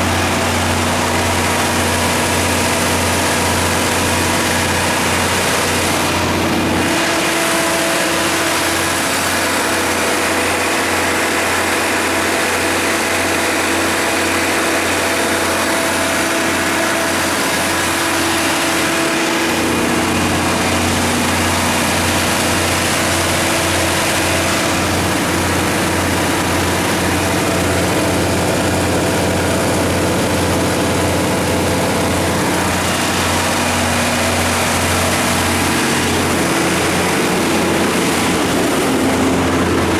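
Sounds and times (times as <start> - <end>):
generator engine humming: 0.0 - 39.9.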